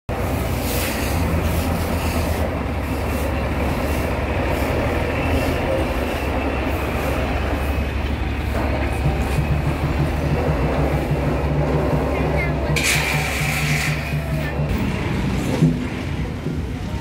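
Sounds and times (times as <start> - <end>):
heavy vehicle engine idling: 0.1 - 17.0
outdoor street noise: 0.1 - 17.0.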